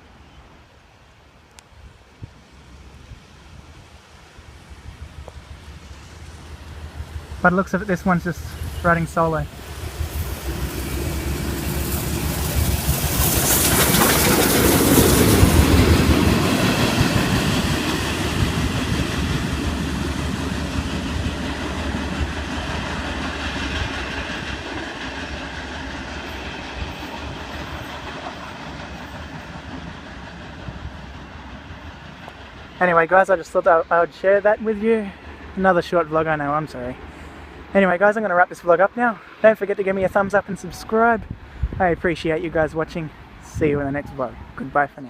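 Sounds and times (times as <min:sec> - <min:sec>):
steam locomotive passing: 0:00.0 - 0:45.0.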